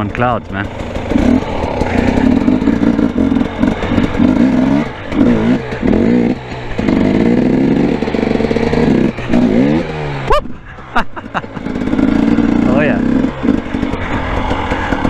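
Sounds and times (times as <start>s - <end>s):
two-stroke dirt bike engine revving: 0.0s - 15.0s.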